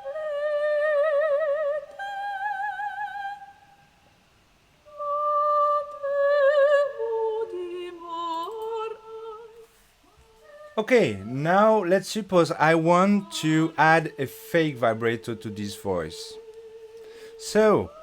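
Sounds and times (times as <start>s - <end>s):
person singing with wide vibrato: 0.0s - 3.9s, 4.9s - 18.0s.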